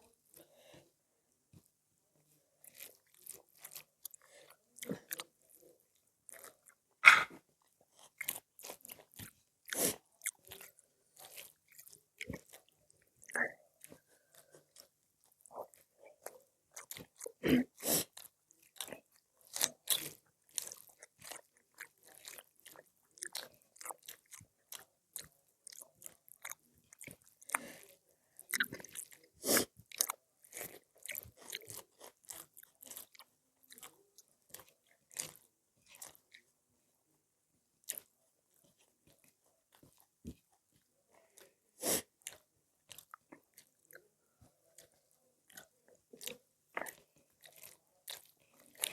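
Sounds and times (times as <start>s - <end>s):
person chewing crunchy food: 2.6s - 36.5s, 37.8s - 48.9s.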